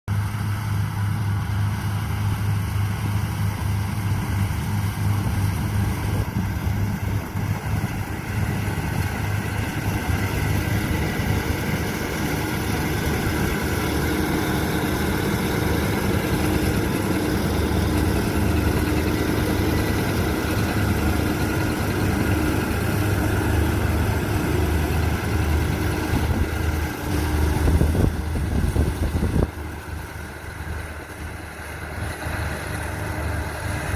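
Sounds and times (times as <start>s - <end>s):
combine harvester engine drone: 0.1s - 33.9s.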